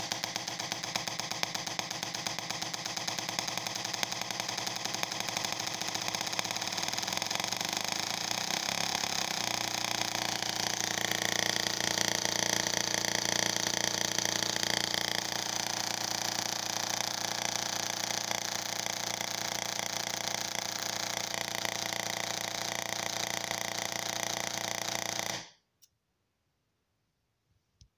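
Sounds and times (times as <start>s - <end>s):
tesla coil buzzing sparks: 0.0s - 25.5s.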